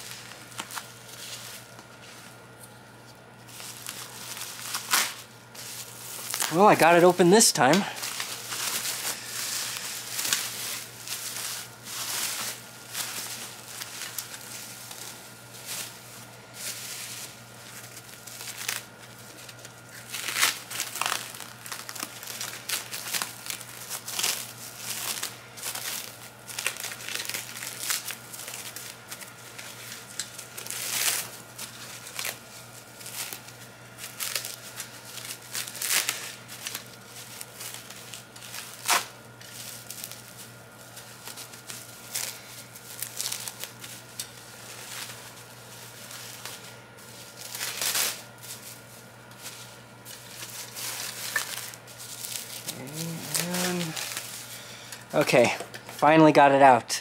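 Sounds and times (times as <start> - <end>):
bubble wrap crinkling: 0.0 - 56.0.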